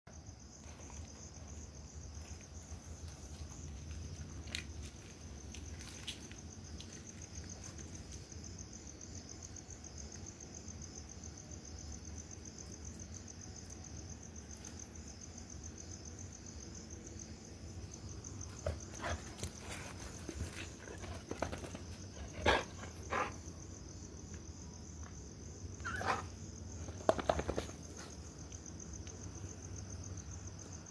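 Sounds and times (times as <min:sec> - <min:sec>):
crickets chirping: 0:00.1 - 0:30.9.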